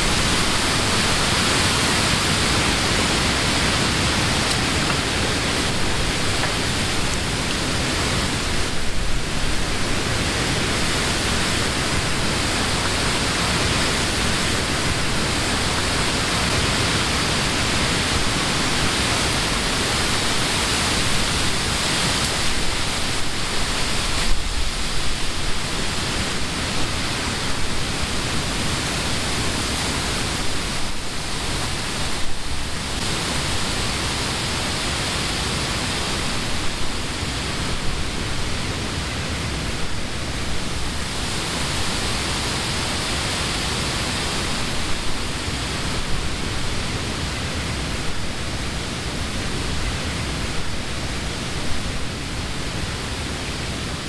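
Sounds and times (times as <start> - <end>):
wind rustling leaves: 0.0 - 54.0.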